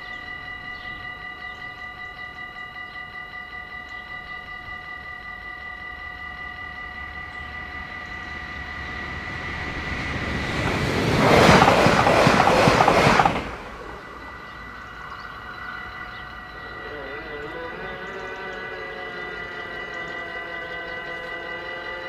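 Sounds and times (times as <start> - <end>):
electric train passing: 0.0 - 22.0
level crossing warning bell: 0.0 - 22.0.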